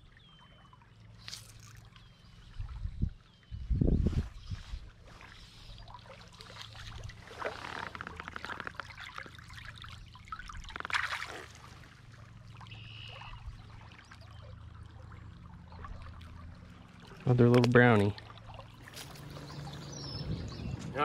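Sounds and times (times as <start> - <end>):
stream water trickling: 0.0 - 21.0.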